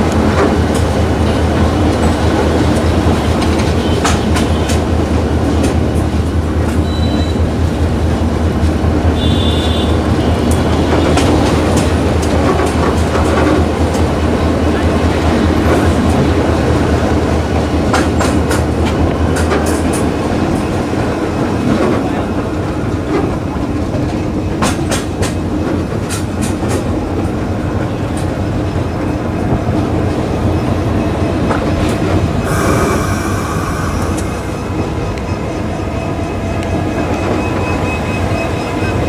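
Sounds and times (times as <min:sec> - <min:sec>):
train engine drone: 0:00.0 - 0:39.0.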